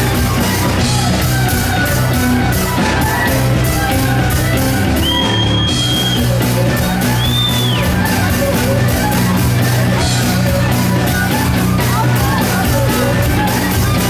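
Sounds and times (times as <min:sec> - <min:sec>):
drum beat: 0:00.0 - 0:14.0
fiddle: 0:00.0 - 0:14.0
guitar: 0:00.0 - 0:14.0
upright double bass: 0:00.0 - 0:14.0.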